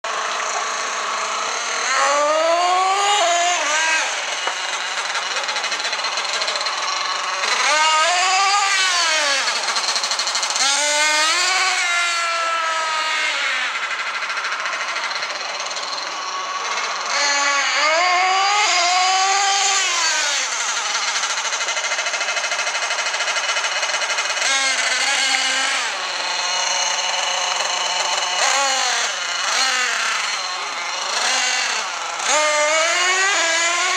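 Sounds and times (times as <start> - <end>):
rc truck engine revving: 0.0 - 33.9.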